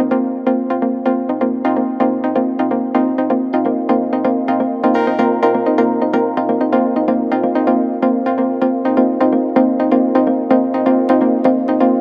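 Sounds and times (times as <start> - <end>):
electronic music with fast pulse: 0.0 - 12.0.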